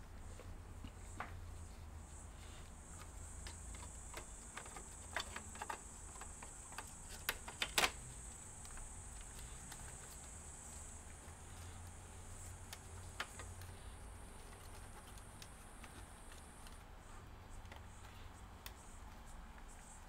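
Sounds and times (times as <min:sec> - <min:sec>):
laptop parts clicking: 0:02.9 - 0:19.7.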